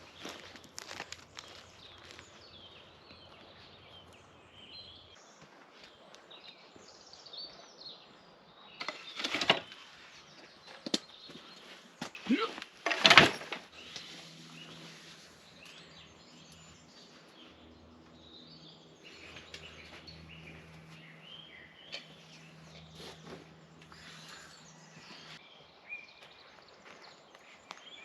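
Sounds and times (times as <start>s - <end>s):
faint birdsong chirps: 0.0s - 28.0s.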